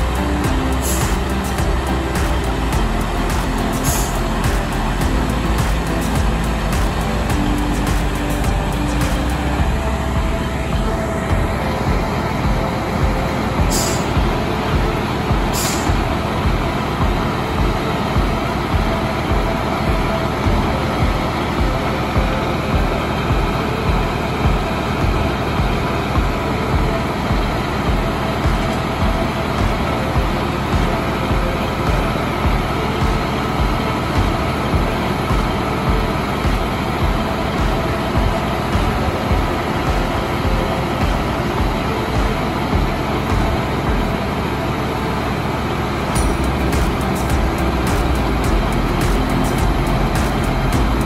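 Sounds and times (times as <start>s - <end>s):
vacuum truck running: 0.0s - 51.0s.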